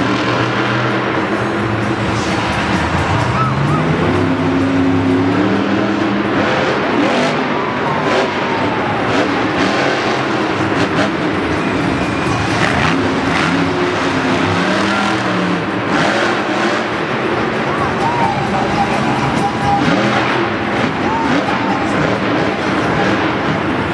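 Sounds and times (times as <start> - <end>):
arena noise: 0.0 - 23.9
truck engines revving: 0.0 - 23.9.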